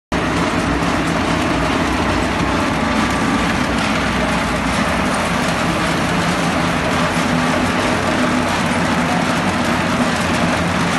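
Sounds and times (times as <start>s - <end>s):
industrial machinery din: 0.1s - 10.9s
low machinery hum: 0.2s - 10.9s.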